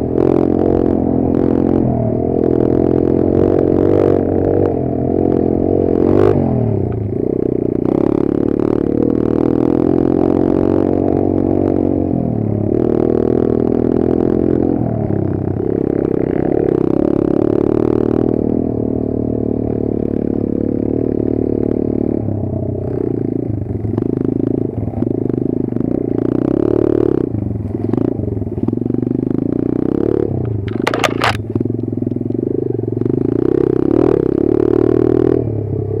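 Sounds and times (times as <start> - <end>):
motorbike engine revving: 0.0 - 36.0.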